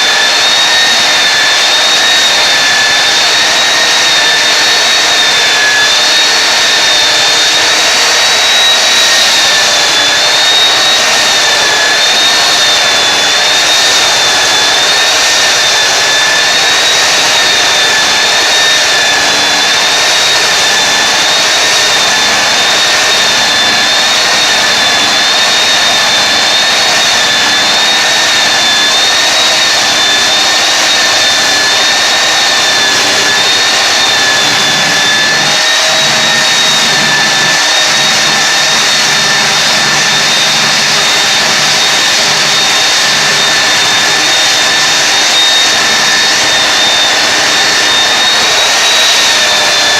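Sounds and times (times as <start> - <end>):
belt sander whining: 0.0 - 49.9.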